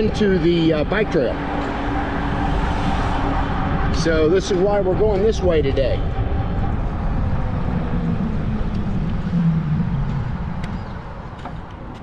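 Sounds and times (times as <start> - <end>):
tyre and road noise: 0.0 - 12.0
wind rumble on microphone: 0.0 - 12.0.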